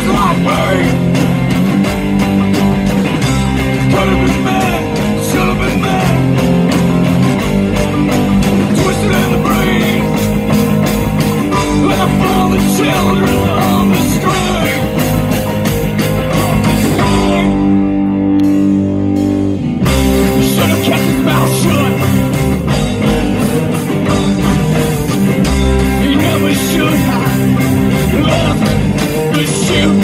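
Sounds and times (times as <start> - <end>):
drums: 0.0 - 30.0
live rock band playing: 0.0 - 30.0.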